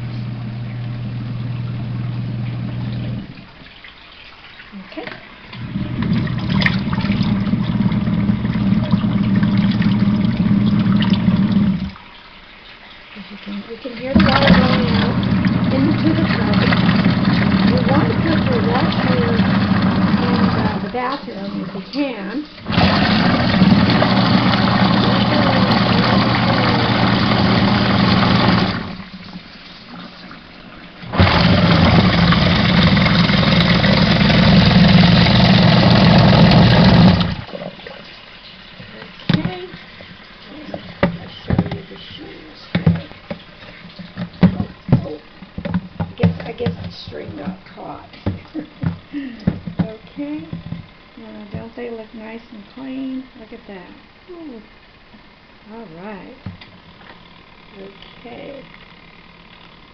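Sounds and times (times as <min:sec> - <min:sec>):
washing machine motor humming: 0:00.0 - 0:03.9, 0:04.6 - 0:59.9
water splashing: 0:01.6 - 0:51.8.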